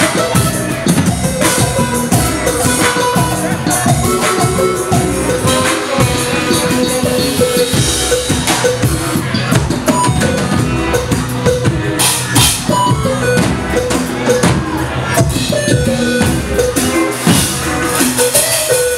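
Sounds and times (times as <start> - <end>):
bass guitar: 0.0 - 18.9
drum kit: 0.0 - 18.9
electric guitar: 0.0 - 18.9
keyboard: 0.0 - 18.9.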